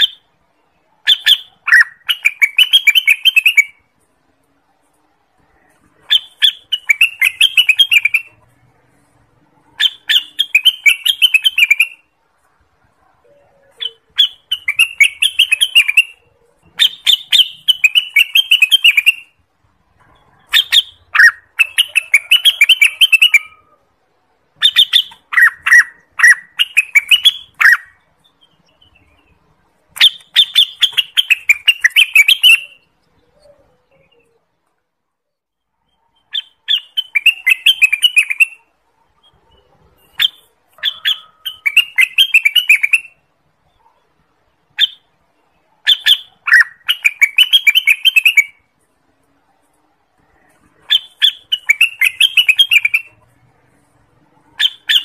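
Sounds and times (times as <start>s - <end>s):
bird singing chirping phrases: 0.0s - 3.9s, 5.4s - 12.2s, 13.0s - 19.4s, 20.0s - 23.9s, 24.5s - 34.5s, 35.5s - 48.6s, 50.2s - 53.5s, 54.4s - 55.0s.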